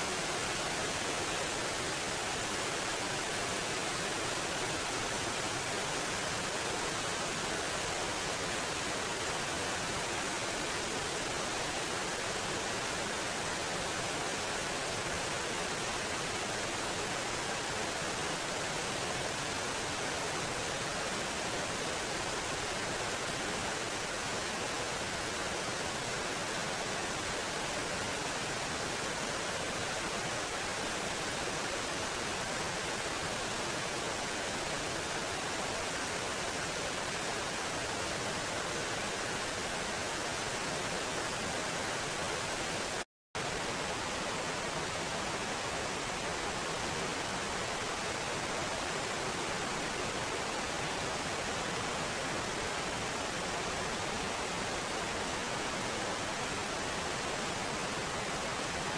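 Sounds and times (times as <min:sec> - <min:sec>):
small waterfall splashing over boulders: 0:00.0 - 0:58.9.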